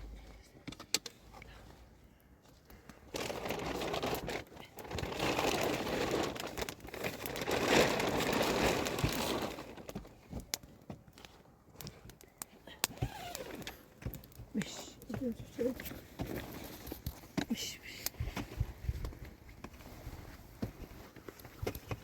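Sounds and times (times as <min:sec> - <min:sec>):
crinkling and rustling: 0:00.0 - 0:22.0.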